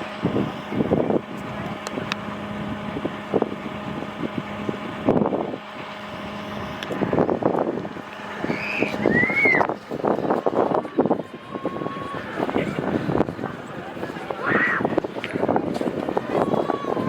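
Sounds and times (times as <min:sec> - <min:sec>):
motor humming: 0:00.0 - 0:17.0
people talking: 0:00.0 - 0:17.0.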